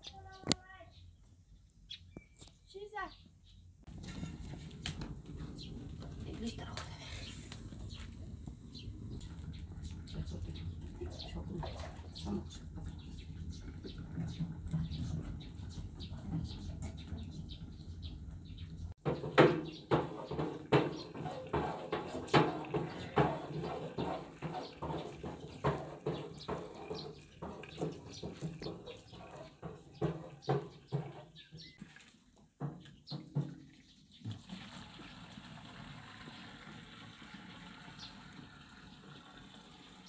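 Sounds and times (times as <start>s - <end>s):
water running from spout: 3.9s - 31.2s, 33.3s - 40.0s.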